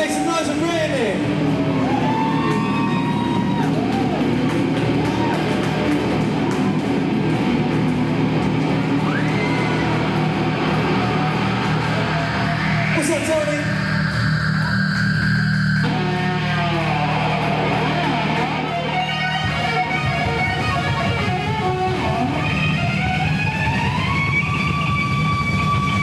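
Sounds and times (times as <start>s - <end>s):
amplified guitar: 0.0s - 26.0s
live rock band playing: 1.2s - 26.0s.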